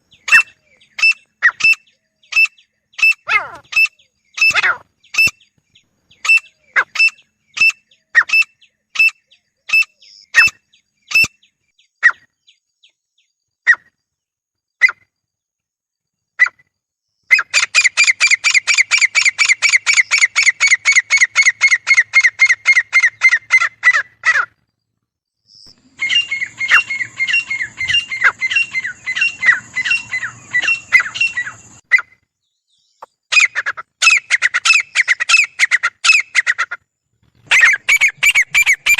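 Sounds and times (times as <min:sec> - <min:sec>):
francolins calling: 0:00.0 - 0:14.0, 0:17.2 - 0:24.8, 0:25.4 - 0:38.9.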